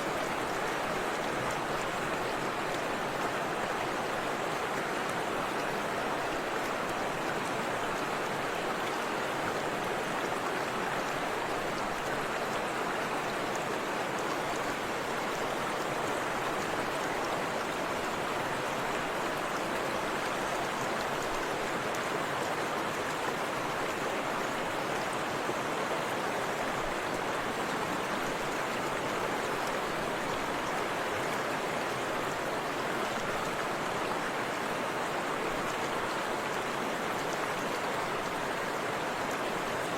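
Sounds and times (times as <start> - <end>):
river and waterfall rushing: 0.0 - 39.9.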